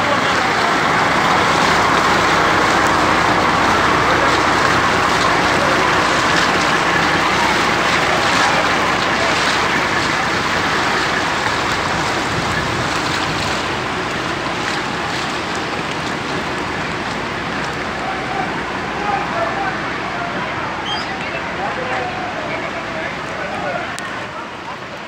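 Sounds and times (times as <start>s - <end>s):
floodwater rushing down street: 0.0s - 25.0s.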